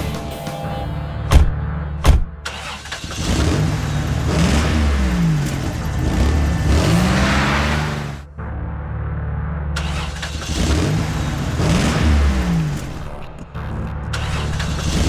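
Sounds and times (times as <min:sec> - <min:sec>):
truck engine revving: 0:01.3 - 0:08.3, 0:09.8 - 0:15.0.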